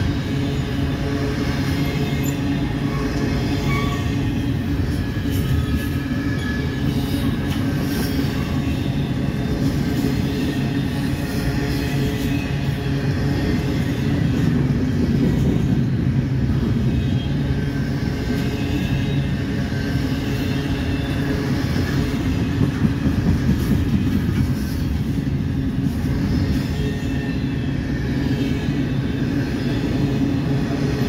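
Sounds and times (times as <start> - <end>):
freight train wheels rumbling on rail: 0.0 - 31.0.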